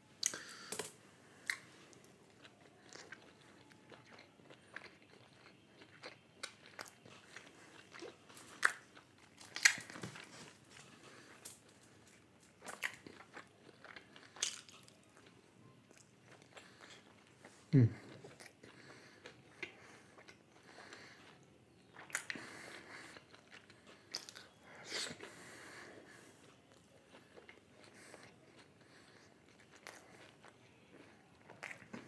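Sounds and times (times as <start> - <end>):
person chewing crisp food: 0.2 - 32.0.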